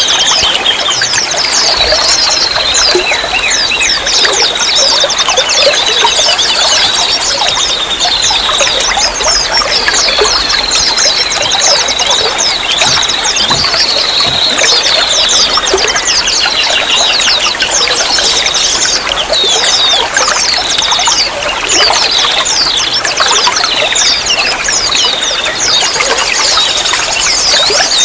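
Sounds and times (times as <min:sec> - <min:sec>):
small birds chirping: 0:00.0 - 0:28.0
water trickling and splashing: 0:00.0 - 0:28.0.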